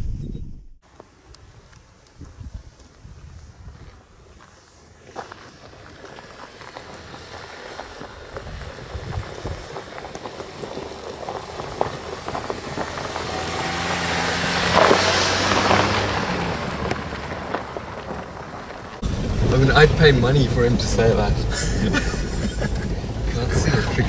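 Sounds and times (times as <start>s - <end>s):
tyres crunching over gravel: 0.8s - 24.0s
car engine humming: 4.0s - 24.0s
tyres brushing through scrub: 4.2s - 24.0s.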